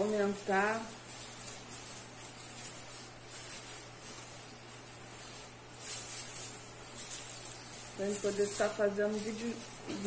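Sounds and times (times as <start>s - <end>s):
plastic tinsel crinkling: 0.0s - 10.0s
steady low hum: 0.0s - 10.0s.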